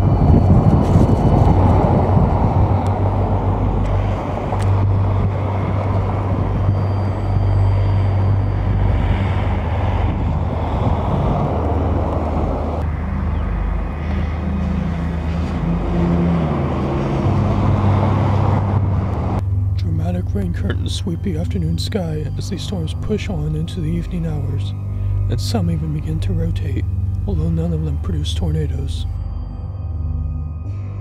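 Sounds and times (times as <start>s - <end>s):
wind buffeting microphone: 0.0s - 27.3s.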